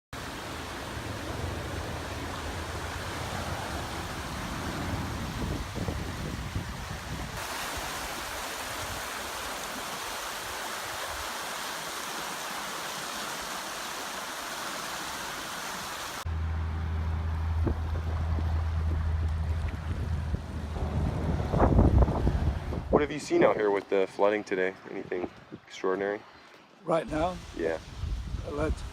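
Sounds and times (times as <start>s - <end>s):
floodwater rushing: 0.2s - 25.0s, 26.9s - 28.9s.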